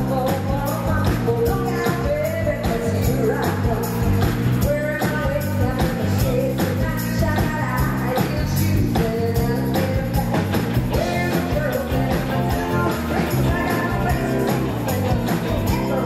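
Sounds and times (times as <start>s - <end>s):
lead singer singing: 0.0s - 16.0s
live rock band: 0.0s - 16.0s
steady drum beat: 0.0s - 16.0s.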